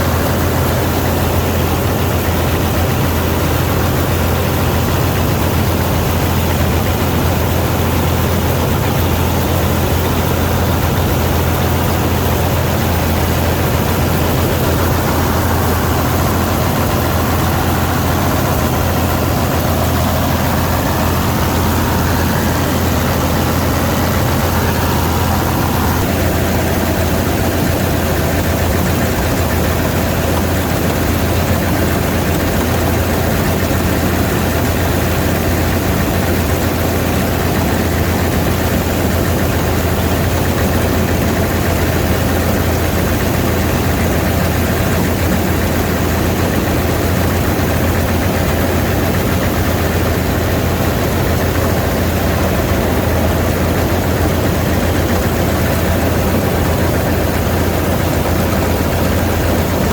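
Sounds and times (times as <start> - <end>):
combine harvester engine drone: 0.0 - 59.9
machine noise: 0.0 - 59.9.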